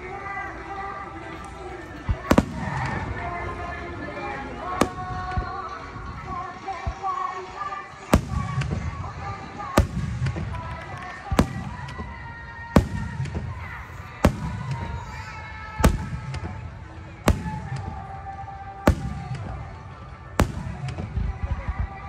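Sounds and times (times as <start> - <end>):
music playing: 0.0 - 22.0
fireworks booming: 1.2 - 7.1, 8.0 - 22.0.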